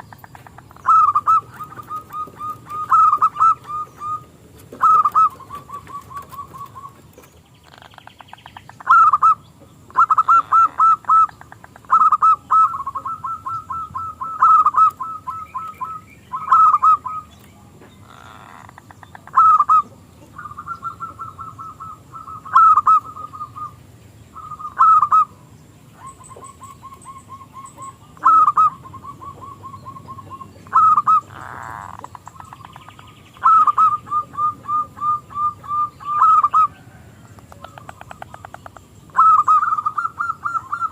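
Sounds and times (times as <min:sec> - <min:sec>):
dove cooing: 0:00.0 - 0:17.4, 0:18.0 - 0:23.8, 0:24.4 - 0:40.9.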